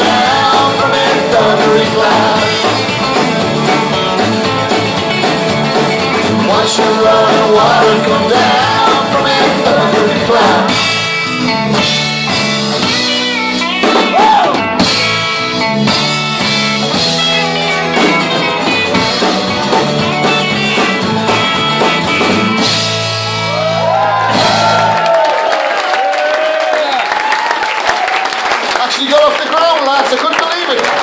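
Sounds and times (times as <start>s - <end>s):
live rock band playing: 0.0s - 25.3s.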